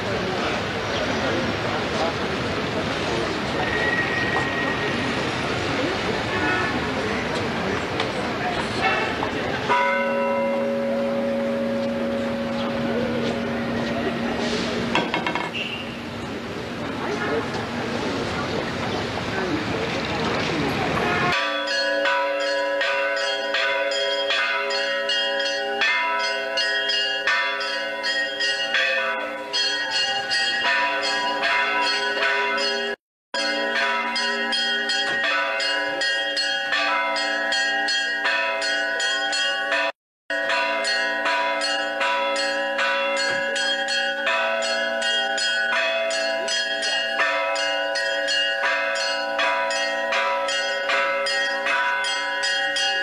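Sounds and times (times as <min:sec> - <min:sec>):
church bells pealing: 0:00.0 - 0:15.2, 0:21.0 - 0:53.0.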